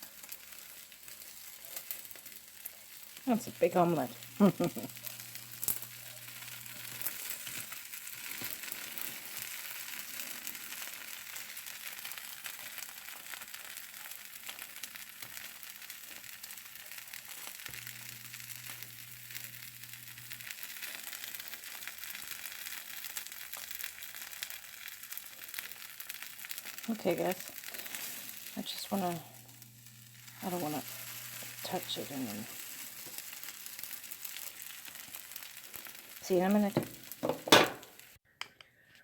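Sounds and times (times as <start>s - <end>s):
omelette sizzling in a frying pan: 0.0s - 38.2s.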